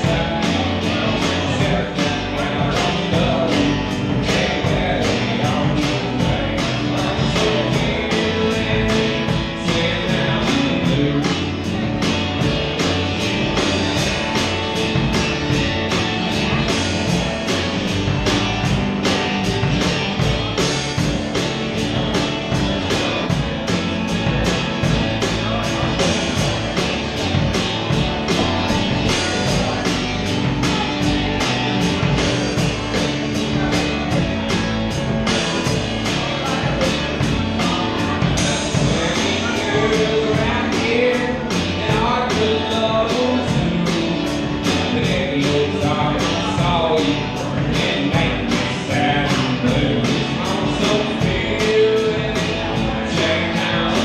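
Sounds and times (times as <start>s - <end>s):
acoustic guitar: 0.0s - 54.0s
bass guitar: 0.0s - 54.0s
drum kit beat: 0.0s - 54.0s.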